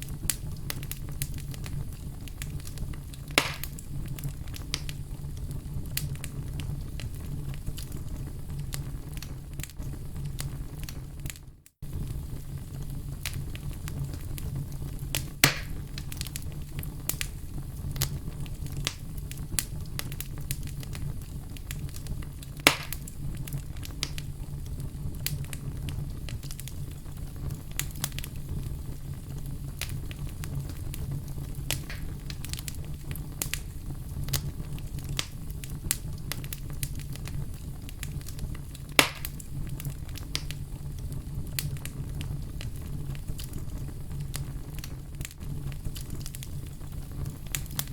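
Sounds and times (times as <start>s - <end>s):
loud fire pops: 0.0s - 47.9s
wood fire crackling: 0.0s - 47.9s.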